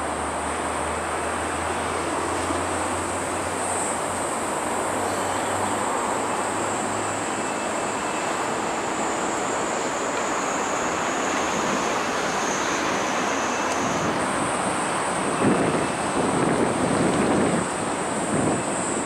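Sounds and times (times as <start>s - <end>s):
road traffic hum: 0.0s - 19.0s
high-pitched hiss: 0.4s - 19.0s.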